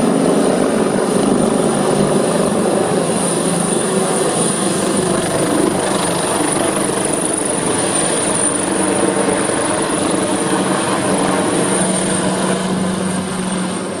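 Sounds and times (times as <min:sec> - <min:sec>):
helicopter running close by: 0:00.0 - 0:14.0.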